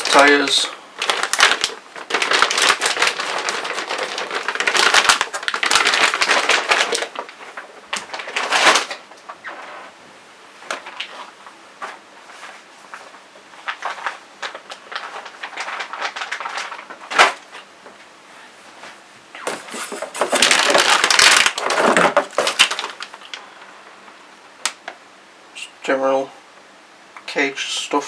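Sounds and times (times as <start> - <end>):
packaging rustling: 0.0 - 10.0, 10.6 - 17.7, 19.4 - 24.8.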